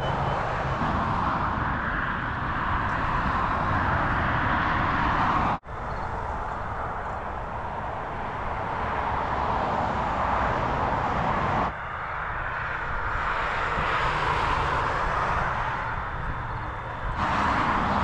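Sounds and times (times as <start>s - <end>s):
moving train rumbling: 0.0s - 18.0s.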